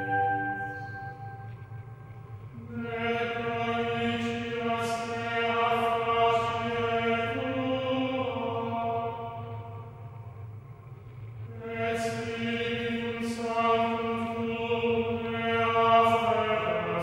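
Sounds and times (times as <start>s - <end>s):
low steady drone: 0.0s - 17.0s
slow chanted singing: 0.0s - 17.0s.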